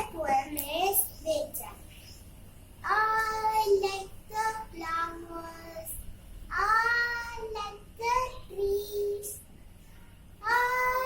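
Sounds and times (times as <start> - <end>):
child chanting a poem: 0.0 - 1.8, 2.8 - 9.4, 10.4 - 11.0.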